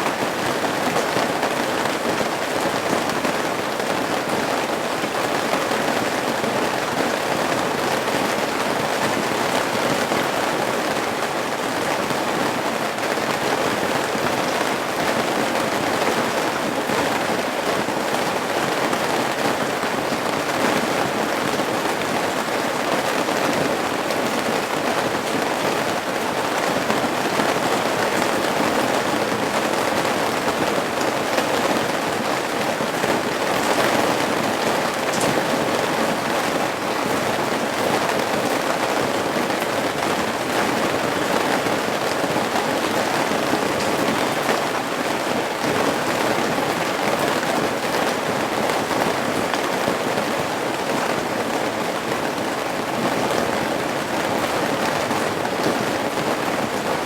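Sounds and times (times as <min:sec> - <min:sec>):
rain falling on roof eaves: 0:00.0 - 0:57.0.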